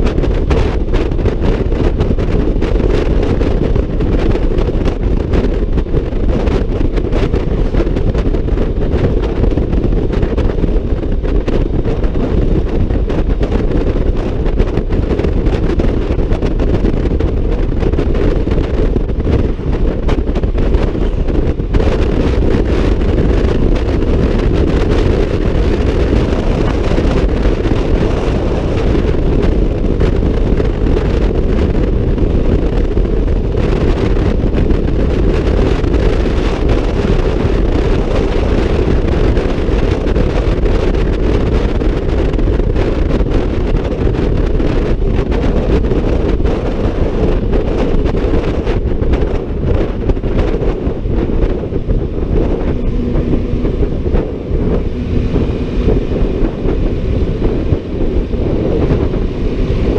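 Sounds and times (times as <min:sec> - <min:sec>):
road and vehicle noise: 0:00.0 - 0:59.9
wind buffeting microphone: 0:00.0 - 0:59.9.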